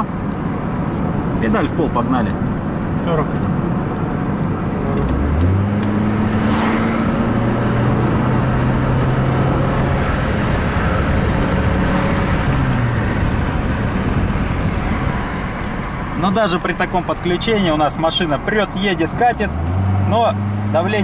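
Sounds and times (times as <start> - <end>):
car engine accelerating hard: 0.0 - 21.0
road noise: 0.0 - 21.0.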